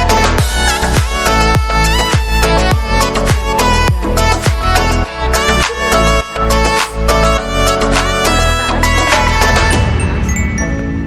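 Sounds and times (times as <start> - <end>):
upbeat electronic music: 0.0 - 10.3.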